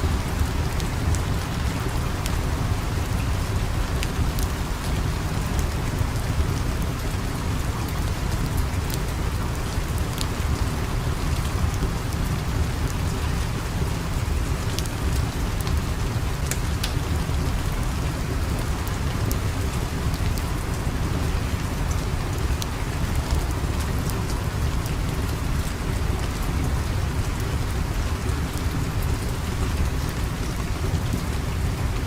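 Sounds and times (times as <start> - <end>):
fire crackling: 0.0 - 32.0
steady rain: 0.0 - 32.0.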